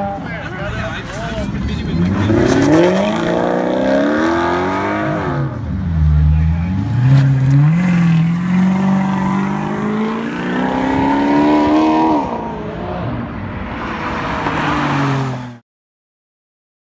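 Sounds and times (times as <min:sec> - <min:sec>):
car engine accelerating: 0:01.2 - 0:15.6.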